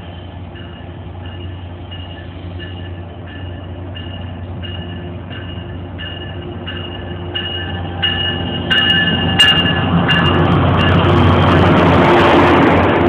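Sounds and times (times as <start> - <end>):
locomotive bell ringing: 0.0 - 11.3
train coaches rolling past: 0.0 - 13.0.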